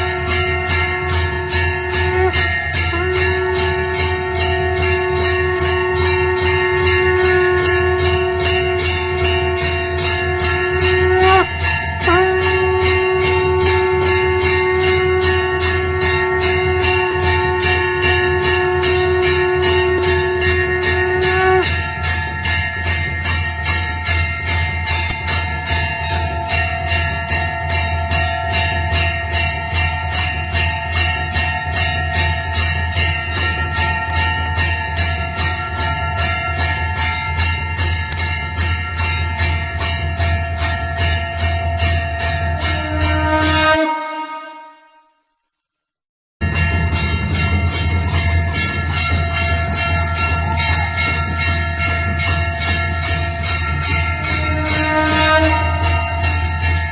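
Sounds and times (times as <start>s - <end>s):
temple bell ringing rapidly: 0.0s - 45.0s, 46.4s - 56.9s.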